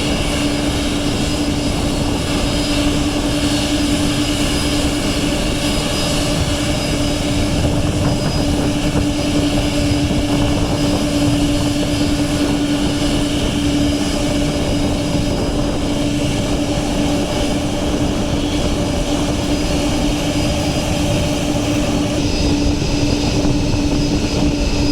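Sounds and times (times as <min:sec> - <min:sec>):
jet engines droning: 0:00.0 - 0:24.9.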